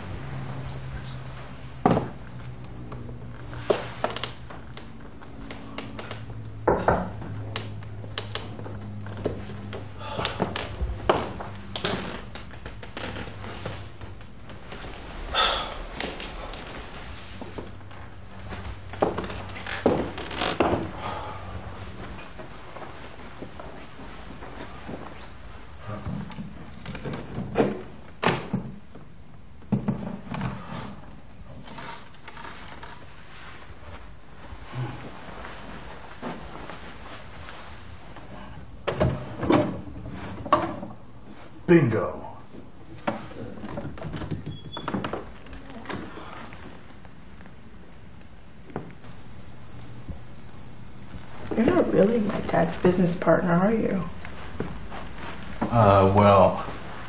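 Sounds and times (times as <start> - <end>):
low steady hum: 0.0 - 44.3, 45.1 - 57.0.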